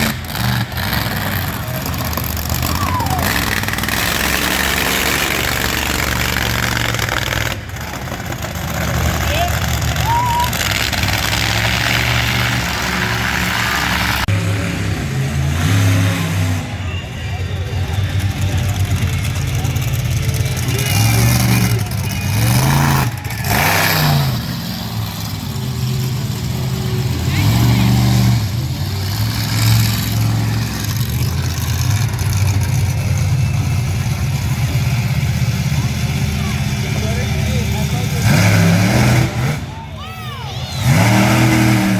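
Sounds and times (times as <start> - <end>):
monster truck engine roaring: 0.0 - 41.9.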